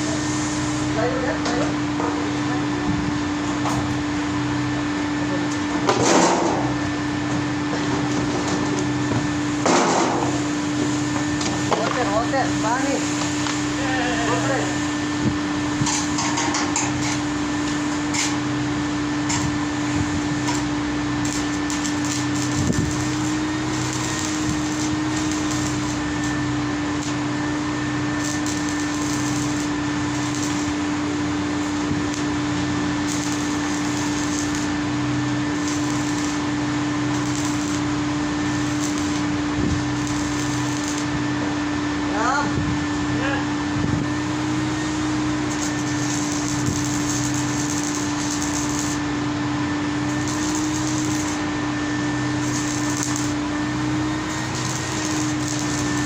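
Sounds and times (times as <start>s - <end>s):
fan or pump humming: 0.0s - 56.0s.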